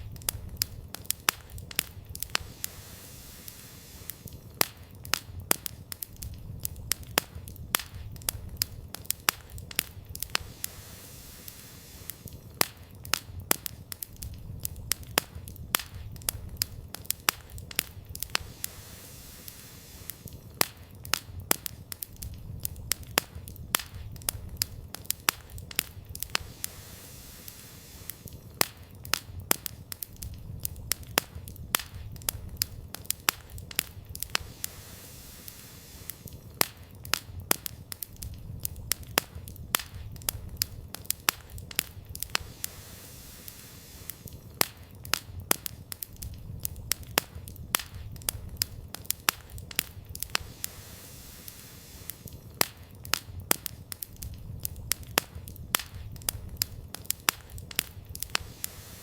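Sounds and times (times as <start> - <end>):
fire pops and crackles: 0.0 - 59.0
low rumble of flames: 0.0 - 59.0.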